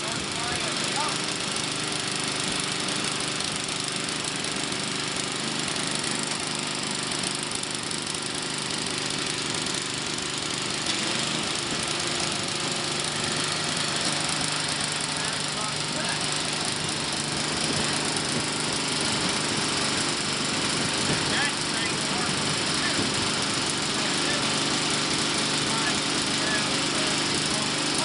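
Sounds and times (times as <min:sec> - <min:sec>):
snow blower engine running: 0:00.0 - 0:28.0.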